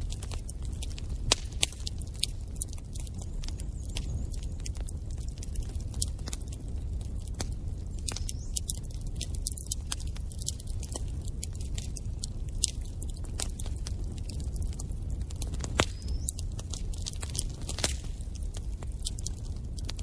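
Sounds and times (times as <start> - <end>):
fire flames rumbling: 0.0 - 20.0
logs crackling and popping: 0.0 - 20.0.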